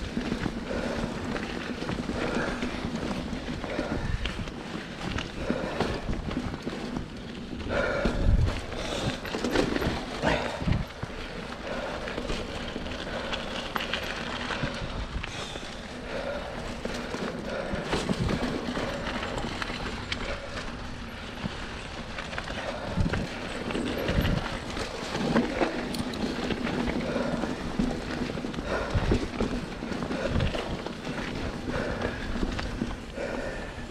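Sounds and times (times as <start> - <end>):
bike rattling and knocking: 0.0 - 33.9
bike tyres on dirt: 0.0 - 33.9.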